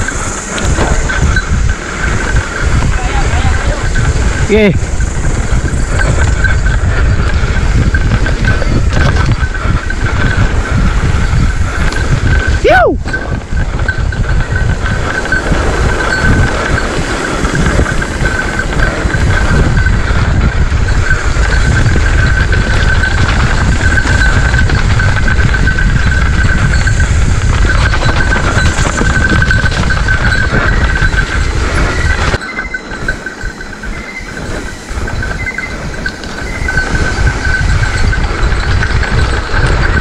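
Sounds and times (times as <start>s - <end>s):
bike and camera mount rattling: 0.0s - 40.0s
bike tyres rumbling on dirt: 0.0s - 40.0s.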